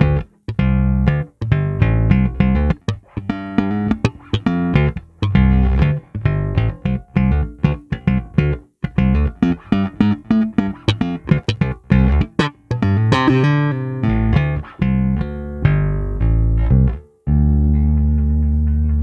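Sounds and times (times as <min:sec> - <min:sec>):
bass guitar plucked: 0:00.0 - 0:19.0.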